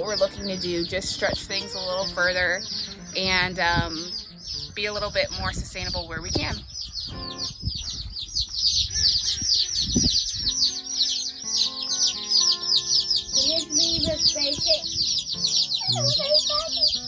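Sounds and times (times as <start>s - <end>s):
soft background music: 0.0s - 7.5s, 10.6s - 17.0s
chicks peeping: 0.0s - 17.0s.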